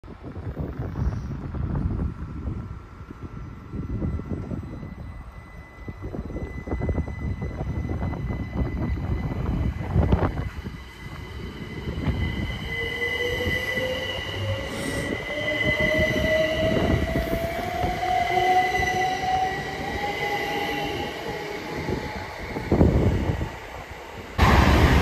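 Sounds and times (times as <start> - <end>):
train traction motor whine: 0.4 - 25.0.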